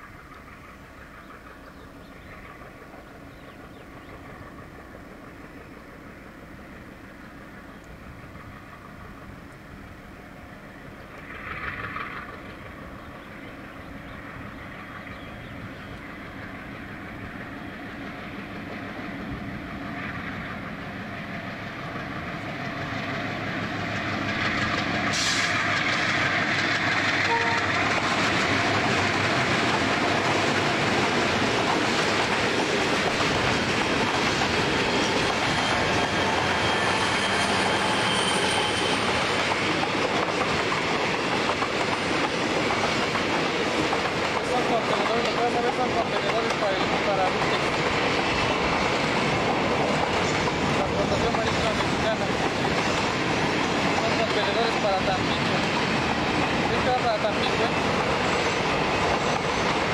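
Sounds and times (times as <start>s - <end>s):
diesel locomotive: 0.0s - 59.9s.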